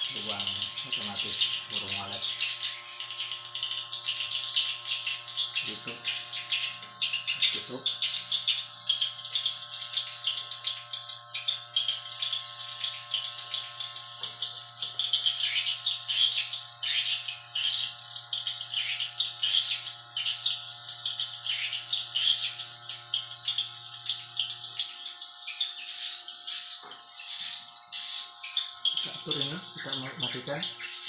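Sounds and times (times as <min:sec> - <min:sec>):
swiftlets chirping: 0:00.0 - 0:31.0.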